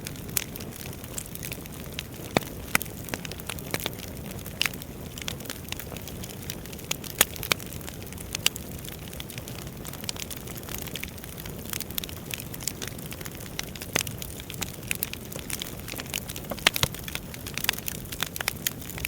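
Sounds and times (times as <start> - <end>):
fire low rumble: 0.0 - 19.0
logs crackling and popping: 0.0 - 19.0.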